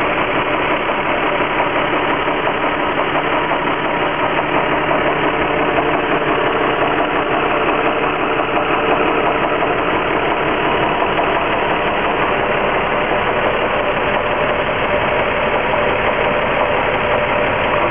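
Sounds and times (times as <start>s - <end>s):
car engine idling: 0.0s - 17.9s
engine knocking: 0.0s - 17.9s.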